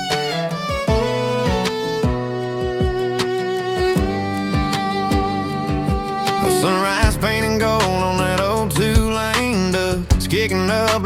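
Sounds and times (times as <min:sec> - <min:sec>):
instrumental country music: 0:00.0 - 0:11.0.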